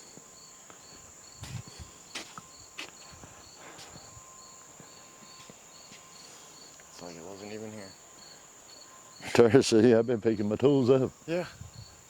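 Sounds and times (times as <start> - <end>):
insect chirping rhythmically: 0.0 - 12.0
insect high trill: 0.0 - 12.0.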